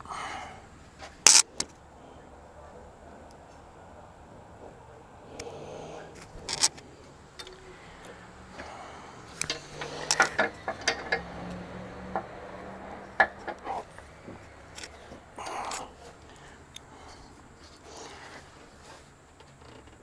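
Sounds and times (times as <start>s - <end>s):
metal tools clinking: 1.0s - 19.8s.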